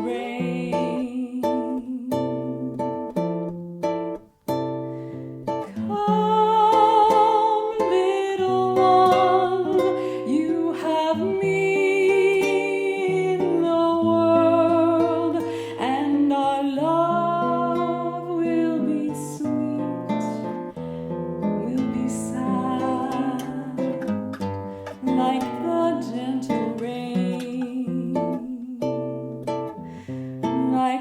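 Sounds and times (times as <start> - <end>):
acoustic guitar plucking chords: 0.0 - 31.0
held melody line with vibrato: 0.0 - 31.0.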